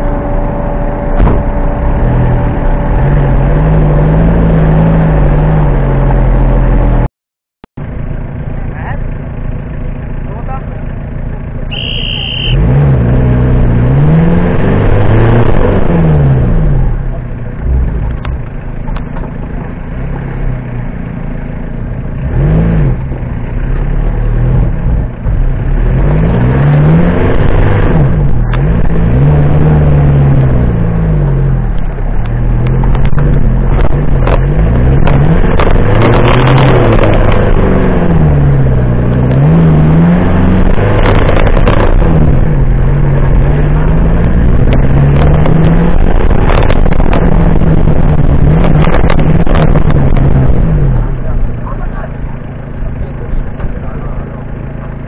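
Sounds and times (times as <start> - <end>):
car engine revving: 0.0 - 7.1, 7.8 - 55.0.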